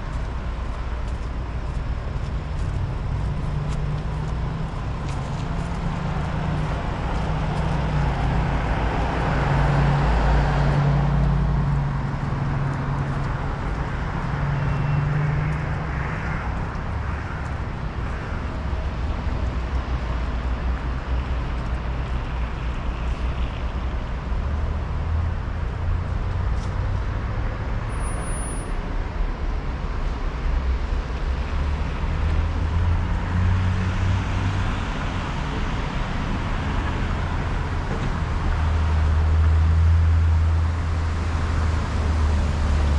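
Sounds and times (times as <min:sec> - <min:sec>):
road noise: 0:00.0 - 0:42.9
vehicles passing: 0:00.0 - 0:42.9.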